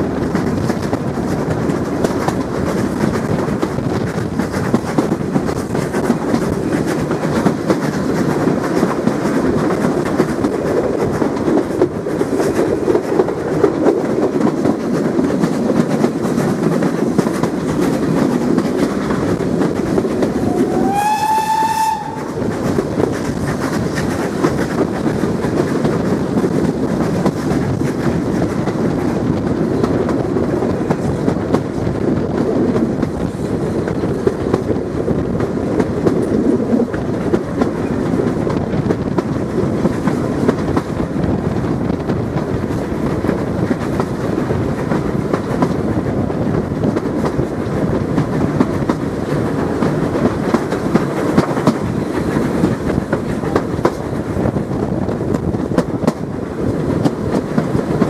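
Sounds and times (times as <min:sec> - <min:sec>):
train wheels rumbling on track: 0:00.0 - 0:58.0
wheels clicking over rail joints: 0:00.0 - 0:58.0.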